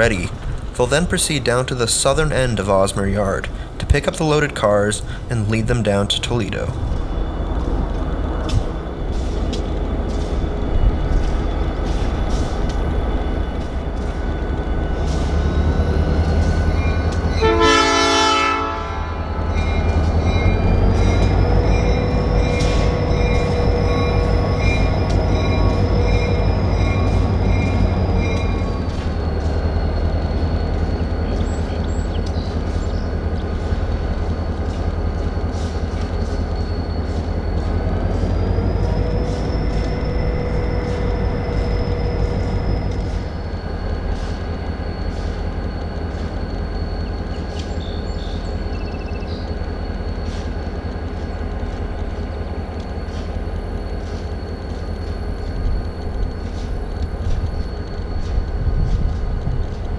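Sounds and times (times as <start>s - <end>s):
diesel locomotive engine rumble: 0.0s - 59.9s
high whine: 0.0s - 59.9s.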